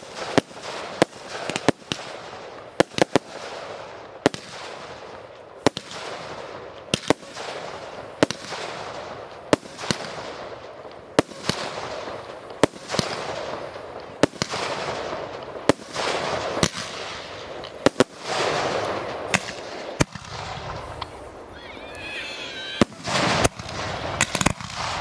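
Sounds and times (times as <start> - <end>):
fireworks bangs: 0.0 - 25.0
fireworks crackling hiss: 0.0 - 25.0.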